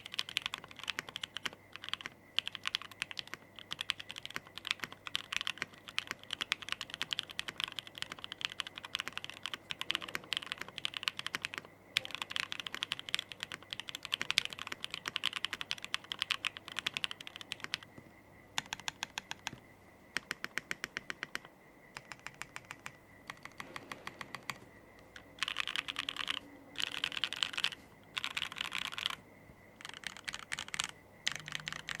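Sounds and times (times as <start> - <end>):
mechanical keyboard typing: 0.0 - 17.9, 18.6 - 29.2, 29.8 - 32.0.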